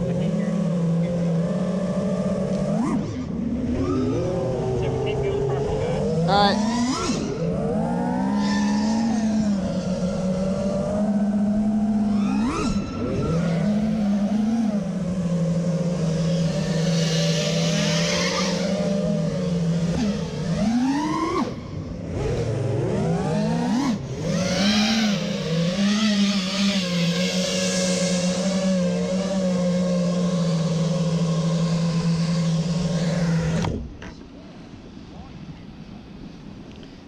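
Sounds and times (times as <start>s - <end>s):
quadcopter motors whining: 0.0s - 34.4s.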